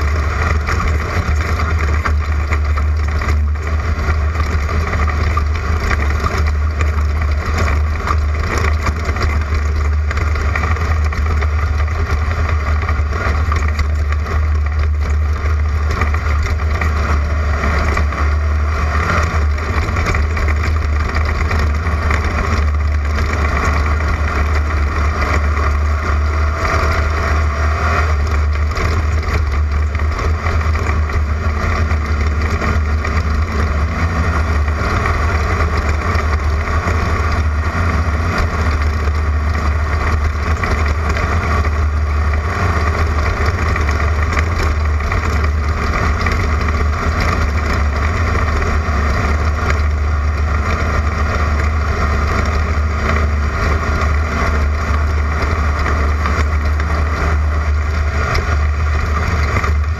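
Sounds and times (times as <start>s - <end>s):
race car engine drone: 0.0s - 59.9s.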